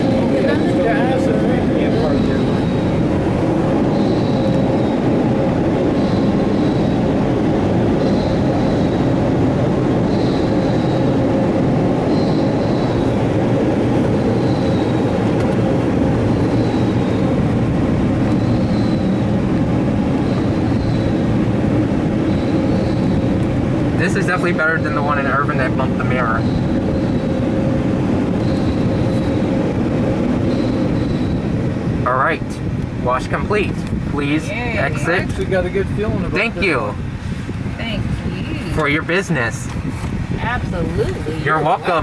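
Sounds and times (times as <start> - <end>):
car wash dryer blowers: 0.0 - 42.0.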